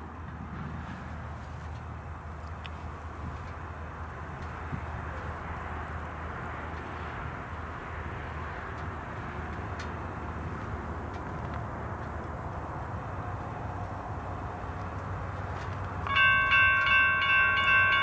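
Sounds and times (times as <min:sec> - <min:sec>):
locomotive engine drone: 0:00.0 - 0:18.0
train rumble: 0:00.0 - 0:18.0.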